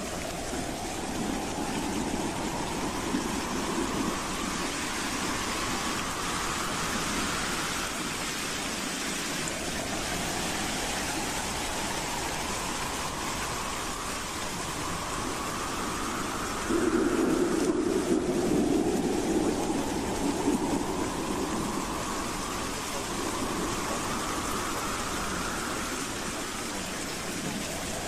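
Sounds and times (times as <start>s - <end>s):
wind howling: 0.0s - 28.0s.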